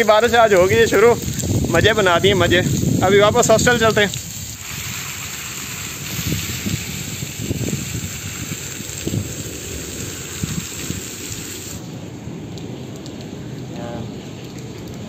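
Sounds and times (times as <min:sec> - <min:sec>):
heavy rain: 0:00.0 - 0:15.0
runoff splashing onto paving: 0:00.0 - 0:15.0.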